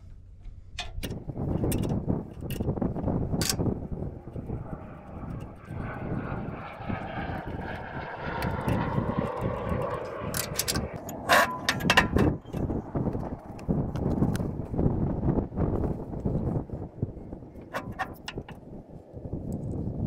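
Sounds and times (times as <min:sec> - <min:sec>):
distant engine drone: 0:00.0 - 0:19.2
low wind rumble: 0:00.0 - 0:20.0.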